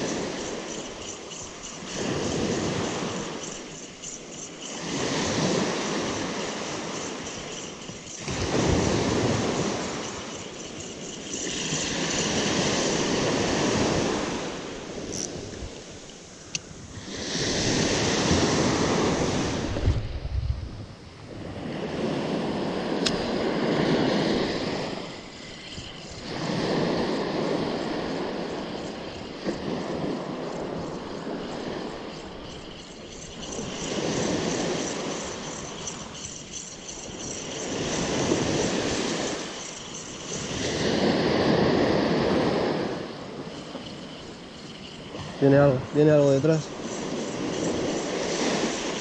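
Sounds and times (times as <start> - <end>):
surf waves breaking on beach: 0.0 - 49.0.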